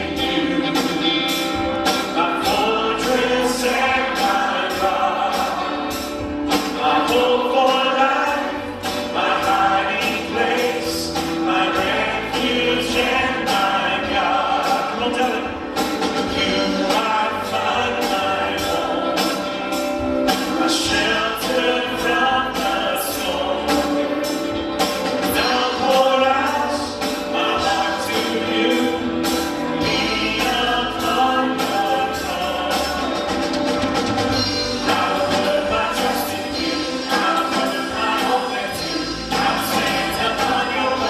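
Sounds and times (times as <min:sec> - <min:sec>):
man singing into microphone: 0:00.0 - 0:33.5, 0:34.3 - 0:41.0
band playing steady beat: 0:00.0 - 0:41.0
voices singing along: 0:00.0 - 0:41.0.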